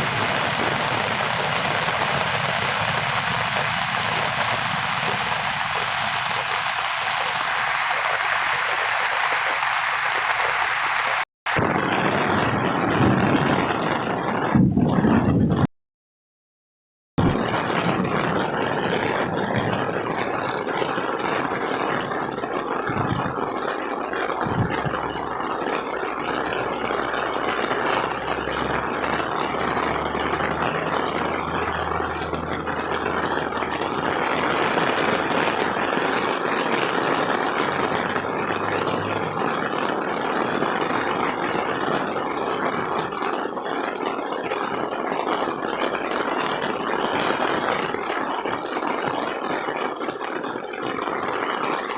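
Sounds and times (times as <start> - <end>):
heavy rain: 0.0 - 15.7, 17.2 - 51.9.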